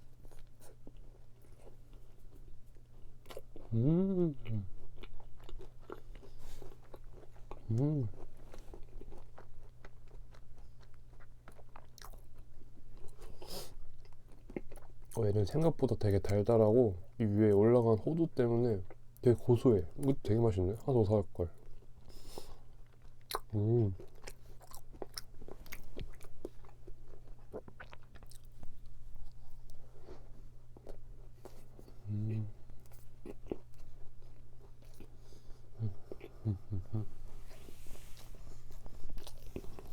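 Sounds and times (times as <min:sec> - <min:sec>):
chewing crunchy tart: 0:00.0 - 0:37.1, 0:38.2 - 0:39.9.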